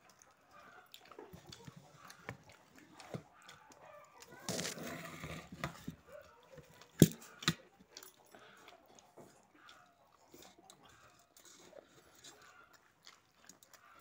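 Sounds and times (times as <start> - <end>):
people chewing: 0.0 - 14.0.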